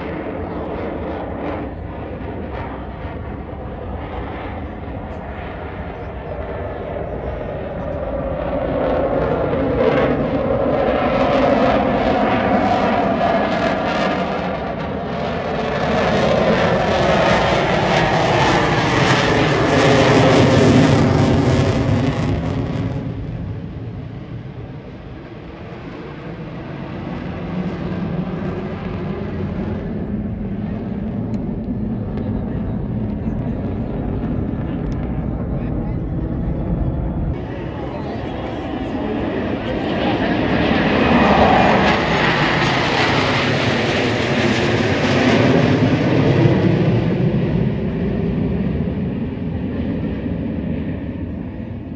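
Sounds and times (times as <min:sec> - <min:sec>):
aircraft engine rumble: 0:00.0 - 0:51.9.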